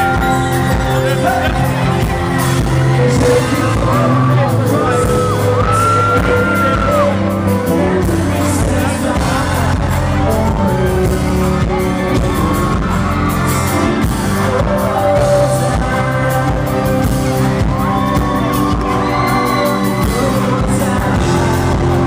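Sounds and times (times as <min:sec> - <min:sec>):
man singing into microphone: 0:00.0 - 0:17.6, 0:19.1 - 0:22.0
live pop band playing: 0:00.0 - 0:22.0.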